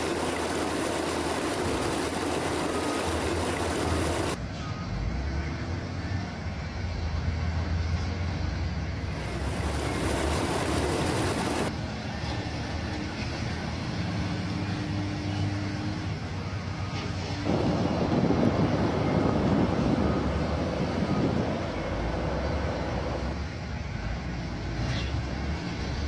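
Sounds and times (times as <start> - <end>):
tractor engine humming: 0.0 - 4.7, 5.9 - 24.5.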